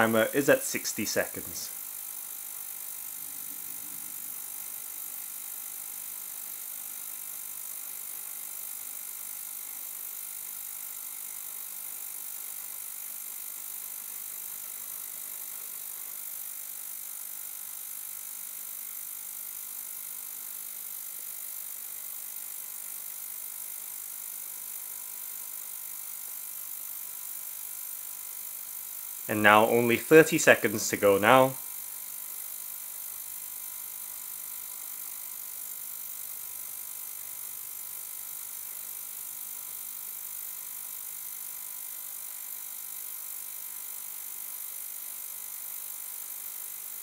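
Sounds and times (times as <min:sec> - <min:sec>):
ultrasonic cleaner buzzing hum: 0:00.0 - 0:47.0.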